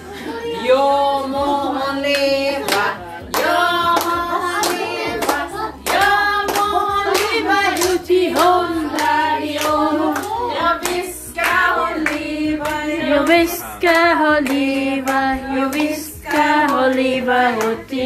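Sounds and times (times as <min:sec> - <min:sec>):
women and children singing: 0:00.0 - 0:18.0.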